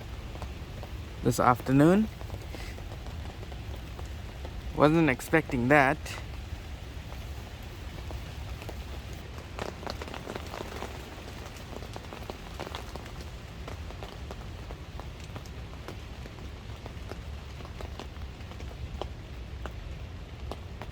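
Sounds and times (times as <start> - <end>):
rain falling: 0.0 - 20.9
raindrop strikes: 0.0 - 20.9.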